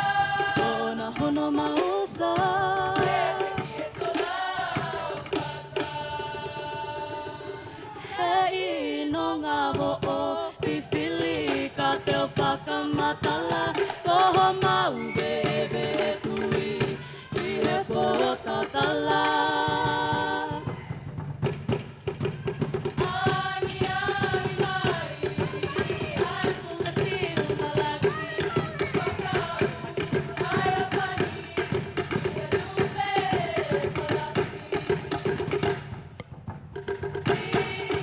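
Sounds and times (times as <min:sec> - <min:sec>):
drum percussion beat: 0:00.0 - 0:07.6, 0:09.7 - 0:38.0
choir of women singing: 0:00.0 - 0:36.0, 0:37.0 - 0:38.0.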